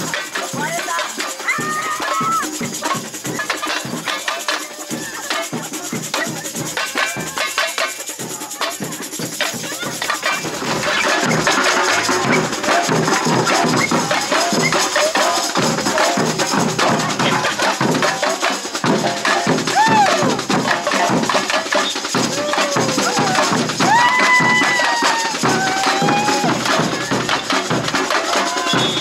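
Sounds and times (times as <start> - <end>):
samba percussion band: 0.0 - 29.0.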